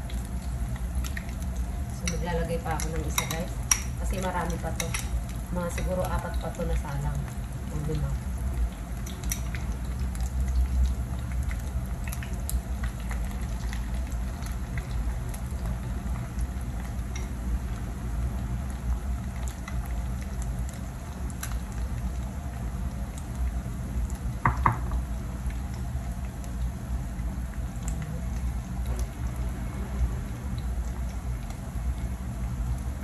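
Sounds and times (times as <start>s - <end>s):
patties sizzling in a pan: 0.0s - 33.0s.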